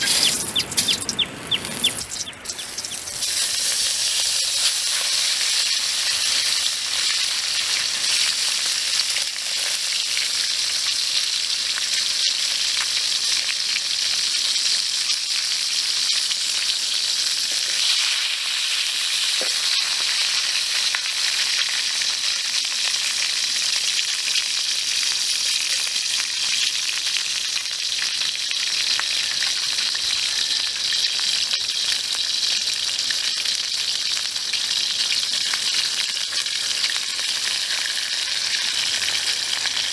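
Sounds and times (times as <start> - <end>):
fish sizzling: 0.0 - 39.9.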